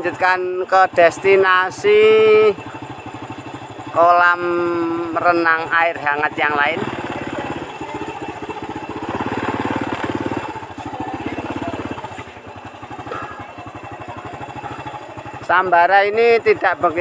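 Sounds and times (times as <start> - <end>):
small motorcycle engine puttering: 0.0 - 17.0.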